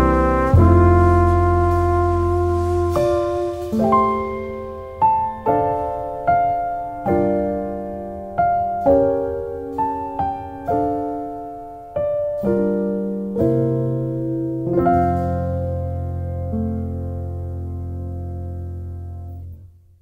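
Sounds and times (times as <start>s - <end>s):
jazz piano chords: 0.0s - 20.0s.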